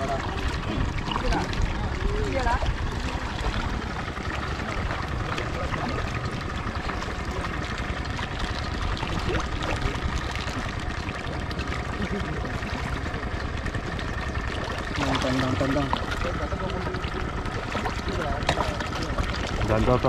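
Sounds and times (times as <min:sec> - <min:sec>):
fish splashing at surface: 0:00.0 - 0:20.0
water splashing and trickling: 0:00.0 - 0:20.0.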